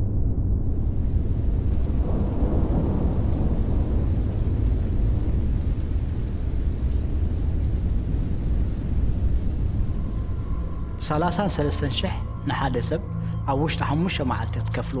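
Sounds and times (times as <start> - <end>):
deep steady rumble: 0.0 - 15.0.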